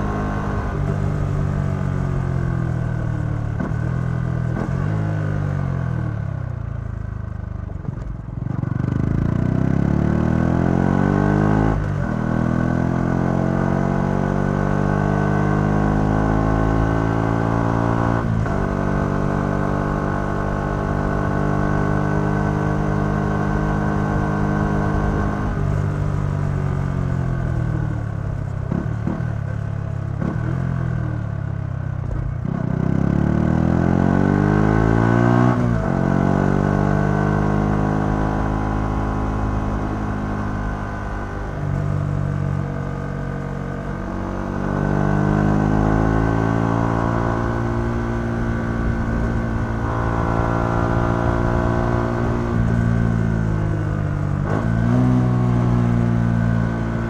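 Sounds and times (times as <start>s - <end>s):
motorcycle engine revving: 0.0s - 6.5s, 8.4s - 57.0s.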